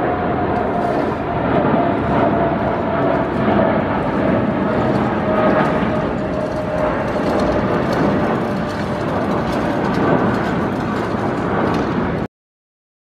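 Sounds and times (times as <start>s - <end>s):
faint engine whine: 0.0s - 12.3s
jet engines roaring: 0.0s - 12.3s.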